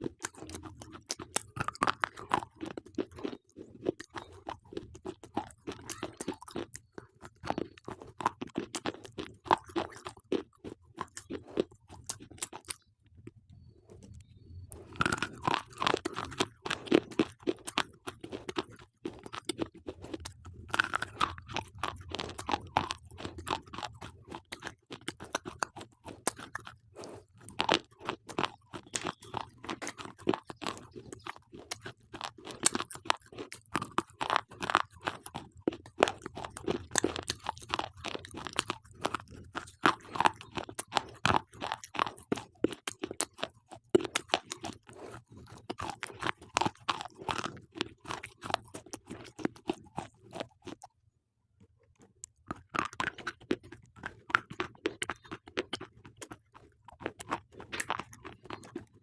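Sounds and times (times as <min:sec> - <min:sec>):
slate pencils being chewed: 0:00.0 - 0:51.0, 0:51.6 - 0:59.0.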